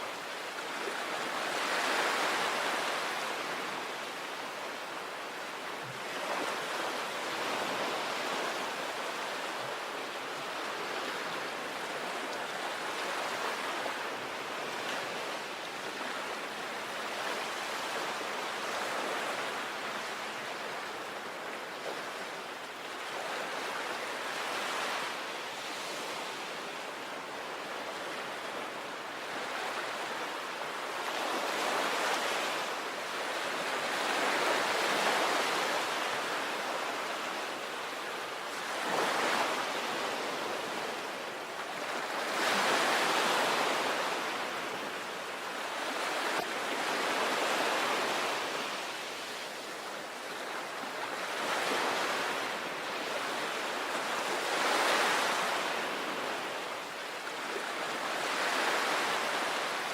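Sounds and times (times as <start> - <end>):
sea waves breaking on a beach: 0.0 - 59.9.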